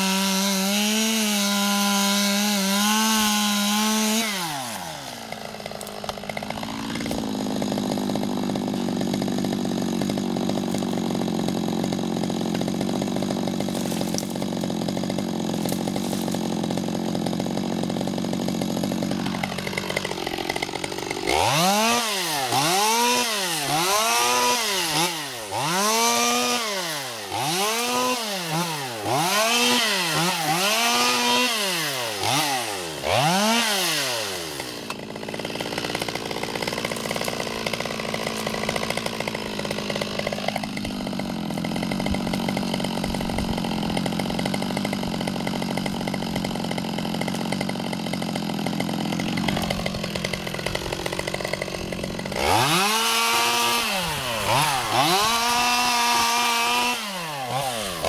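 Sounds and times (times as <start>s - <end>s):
chainsaw cutting and idling: 0.0s - 58.0s.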